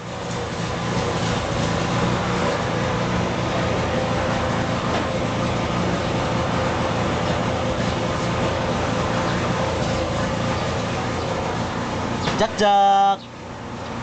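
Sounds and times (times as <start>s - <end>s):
motor running steadily: 0.0s - 14.0s.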